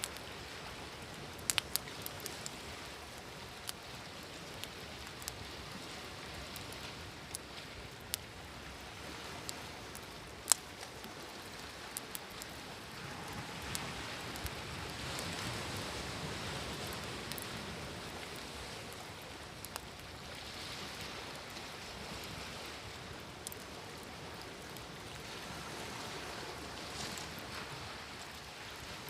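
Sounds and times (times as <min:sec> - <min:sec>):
campfire crackling and popping: 0:00.0 - 0:21.6, 0:22.2 - 0:25.2
sea waves: 0:00.0 - 0:29.0.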